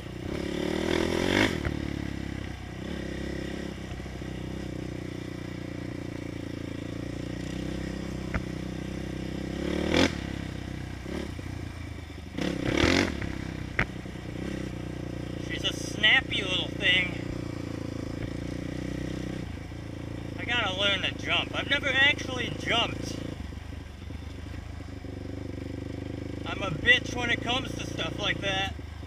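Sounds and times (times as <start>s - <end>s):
quad engine revving under load: 0.0s - 11.7s, 12.3s - 23.4s, 25.0s - 28.8s.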